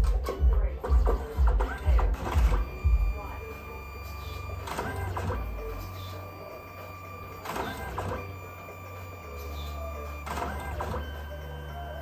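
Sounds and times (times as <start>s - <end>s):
printer low hum: 0.0s - 12.0s
printer mechanical pass: 1.2s - 12.0s.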